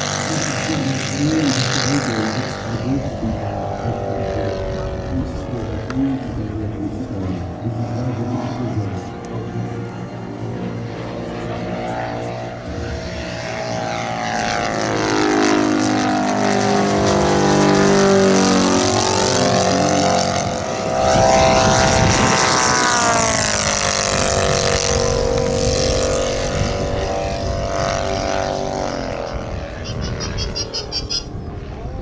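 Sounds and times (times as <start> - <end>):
model plane motor and propeller: 0.0 - 32.0.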